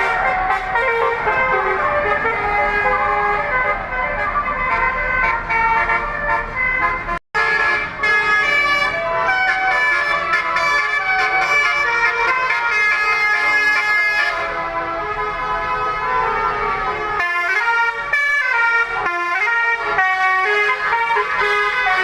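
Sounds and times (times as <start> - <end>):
air horn playing a melody: 0.0 - 22.0.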